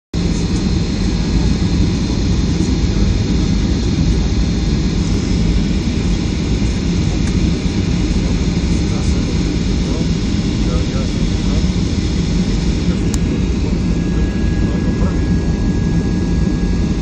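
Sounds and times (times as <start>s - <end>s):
faint high whine: 0.2s - 17.0s
jet engines rumbling: 0.2s - 17.0s.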